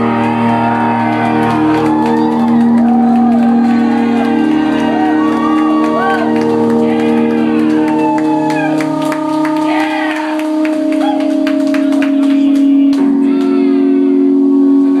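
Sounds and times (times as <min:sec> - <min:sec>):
droning electric guitars and keyboard: 0:00.0 - 0:15.0.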